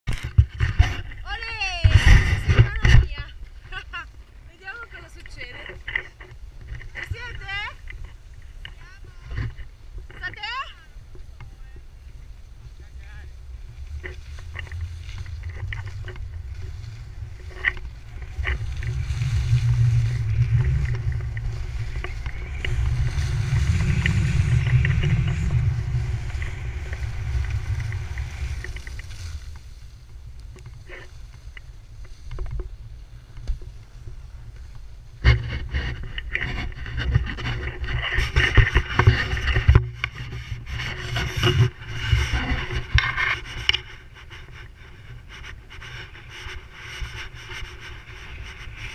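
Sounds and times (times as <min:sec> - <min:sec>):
wind rumbling on microphone: 0:00.0 - 0:48.9
skis sliding over snow: 0:00.3 - 0:48.9
sharp scraping: 0:04.5 - 0:10.8, 0:12.1 - 0:32.7, 0:35.1 - 0:48.9.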